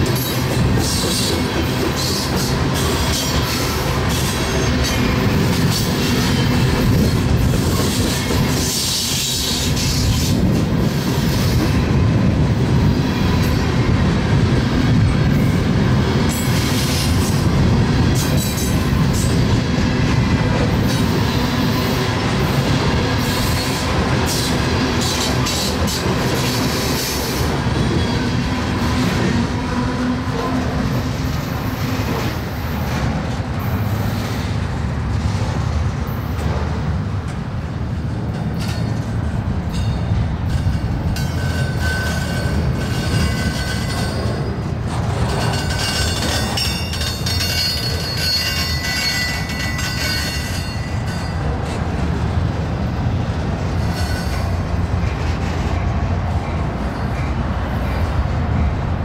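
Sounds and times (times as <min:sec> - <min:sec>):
railcar wheels rumbling on rails: 0:00.0 - 0:59.0.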